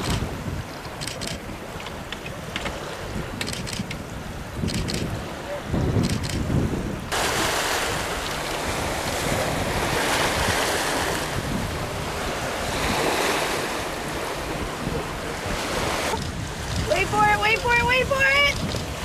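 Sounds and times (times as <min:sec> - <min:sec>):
choppy sea water: 0:00.0 - 0:19.0
wind on the microphone: 0:00.0 - 0:19.0
wind rushing: 0:03.2 - 0:19.0.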